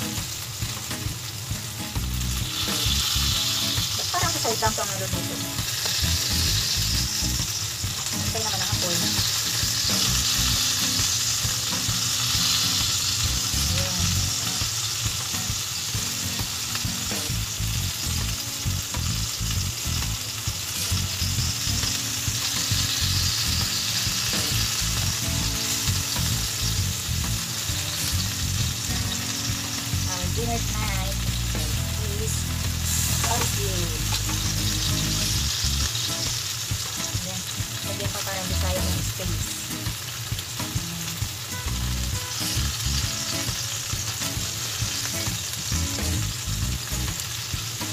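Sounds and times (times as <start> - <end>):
chicken sizzling on grill pan: 0.0 - 47.9.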